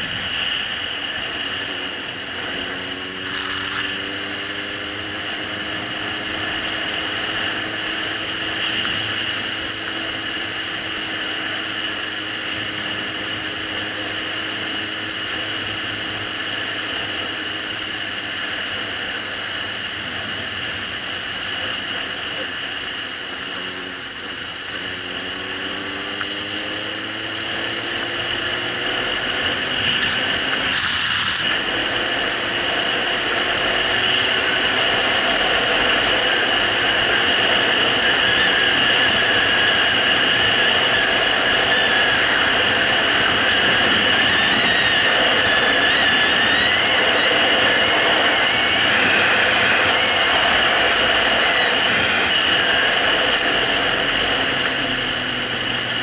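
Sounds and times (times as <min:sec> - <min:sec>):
motorcycle engine revving up: 0:00.0 - 0:56.0.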